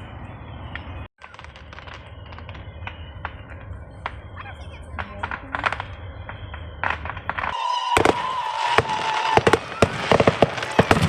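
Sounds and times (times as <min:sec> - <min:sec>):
whistle-like tone: 0:00.0 - 0:09.9
fireworks popping and crackling: 0:00.6 - 0:11.0.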